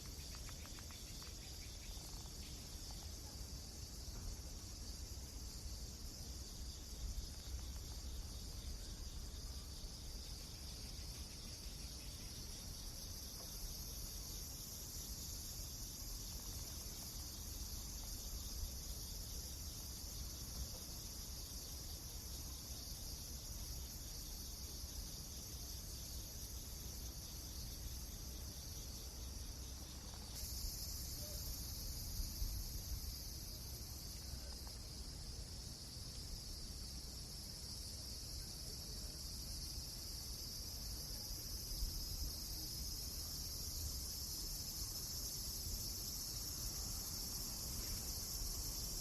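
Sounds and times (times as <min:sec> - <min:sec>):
crickets trilling: 0:00.0 - 0:49.0.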